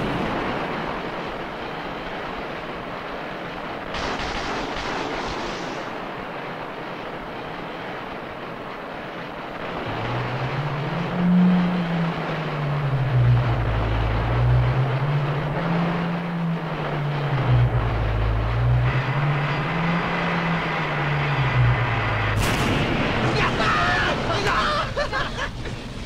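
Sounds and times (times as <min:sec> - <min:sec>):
low drone rising and falling: 0:00.0 - 0:26.0
rushing churning water: 0:00.0 - 0:26.0.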